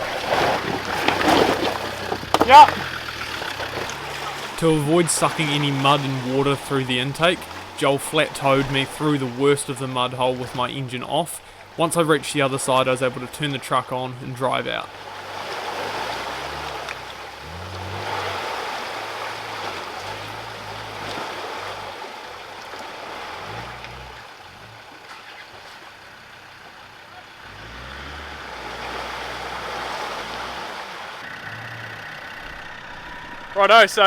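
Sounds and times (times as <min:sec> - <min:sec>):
mud and water sloshing: 0:00.0 - 0:34.0
off-road vehicle engine revving: 0:00.0 - 0:34.0.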